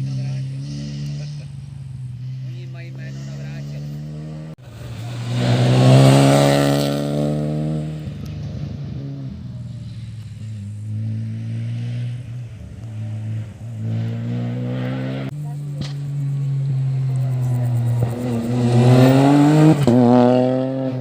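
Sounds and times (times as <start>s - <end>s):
rally car engine passing: 0.0s - 21.0s.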